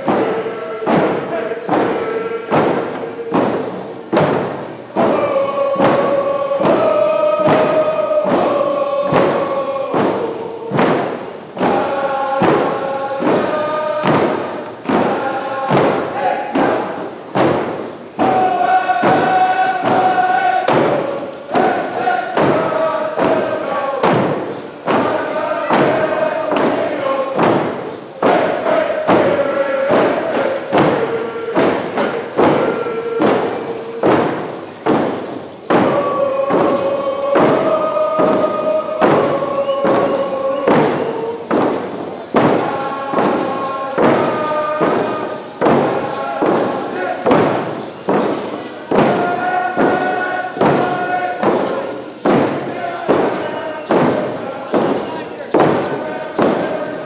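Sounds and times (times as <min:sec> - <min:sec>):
group singing in unison: 0:00.0 - 0:57.0
hand drums beating: 0:00.0 - 0:57.0.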